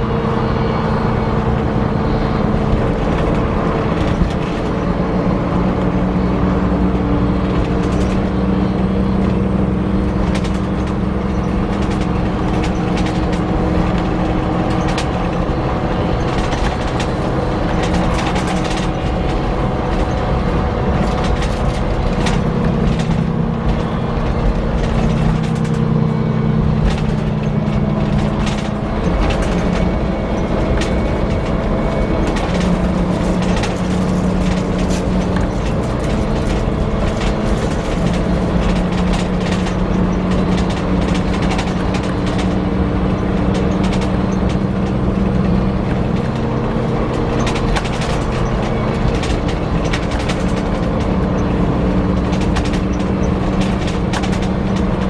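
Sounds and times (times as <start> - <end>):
coach engine whining and rumbling: 0.0 - 55.0
clicks and rattles: 10.2 - 26.0, 26.7 - 55.0.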